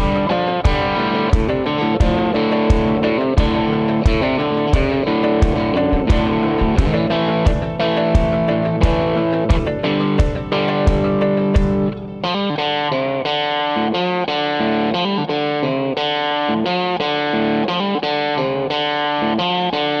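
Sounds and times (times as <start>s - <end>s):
distorted electric guitar music: 0.0s - 20.0s.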